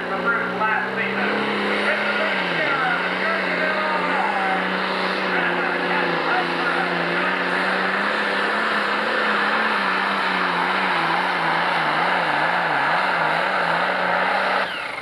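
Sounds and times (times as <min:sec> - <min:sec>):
diesel engine at full power: 0:00.0 - 0:15.0.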